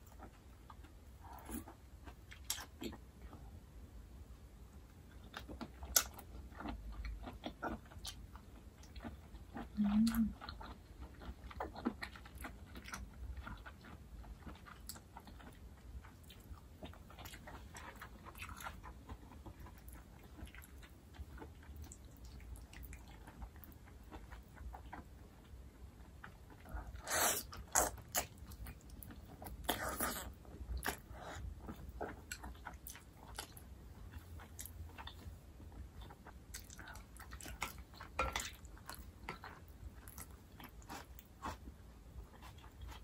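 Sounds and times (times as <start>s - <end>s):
wet chewing: 5.1s - 43.0s.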